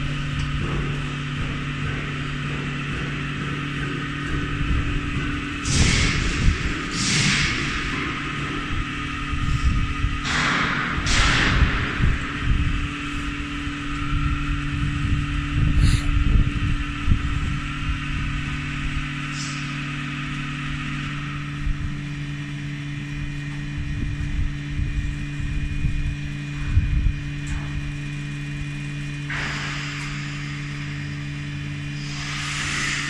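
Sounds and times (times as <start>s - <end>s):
electric machine hum: 0.0s - 33.0s.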